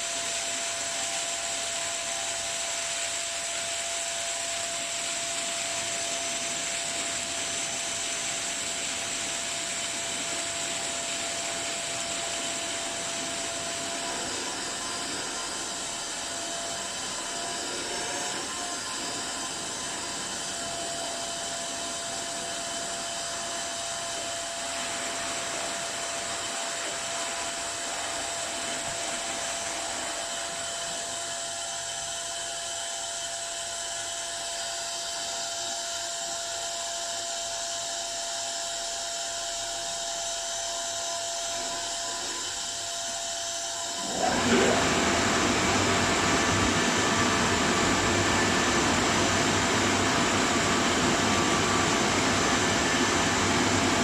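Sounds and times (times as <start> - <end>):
car wash machinery whirring: 0.0 - 54.0.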